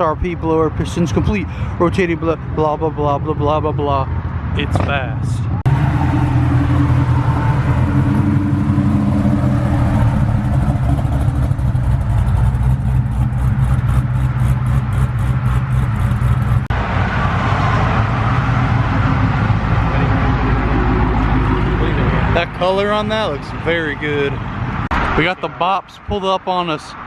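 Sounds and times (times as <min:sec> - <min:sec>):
car engines idling: 0:00.0 - 0:26.3
traffic noise: 0:00.0 - 0:27.0.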